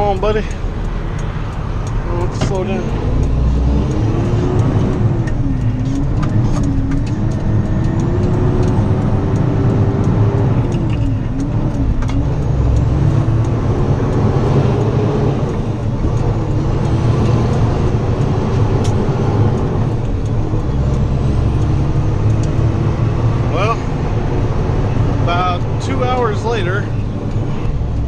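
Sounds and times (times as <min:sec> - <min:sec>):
engine whine: 0:00.0 - 0:28.0
truck engine and road noise: 0:00.0 - 0:28.0.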